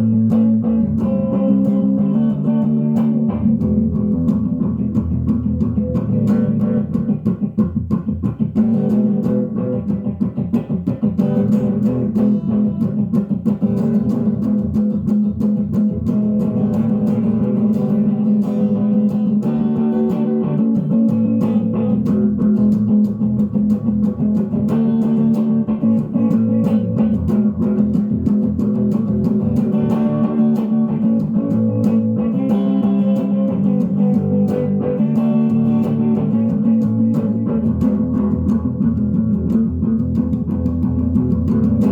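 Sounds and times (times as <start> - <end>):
electric guitar with tape echo: 0.0 - 41.9.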